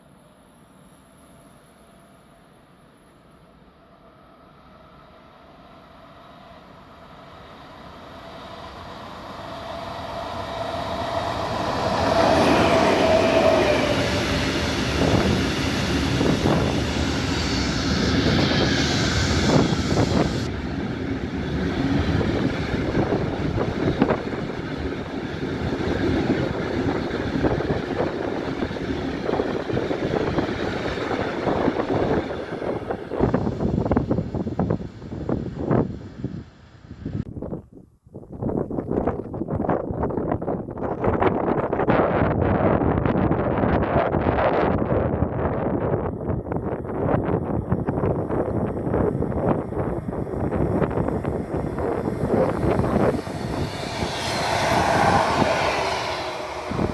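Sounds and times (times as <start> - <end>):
train passing: 0.0 - 37.3, 39.0 - 56.9.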